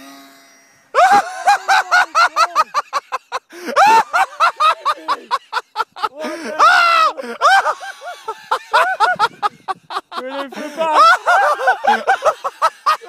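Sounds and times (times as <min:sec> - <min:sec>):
person laughing hard: 0:01.0 - 0:13.0.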